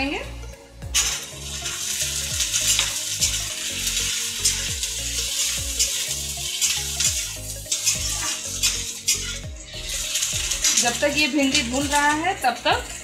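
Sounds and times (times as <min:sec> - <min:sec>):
okra sizzling in hot oil: 0:00.9 - 0:13.0
metal spatula scraping: 0:01.0 - 0:13.0.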